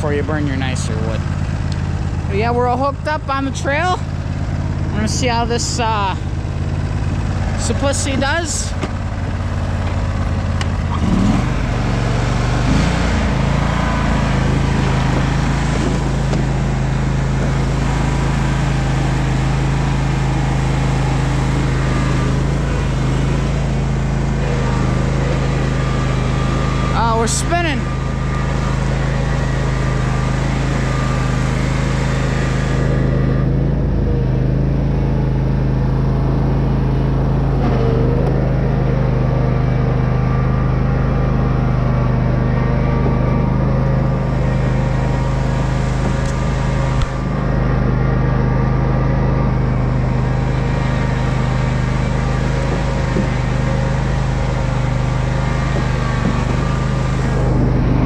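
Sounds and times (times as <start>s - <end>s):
lawn tractor engine drone: 0.0s - 58.0s.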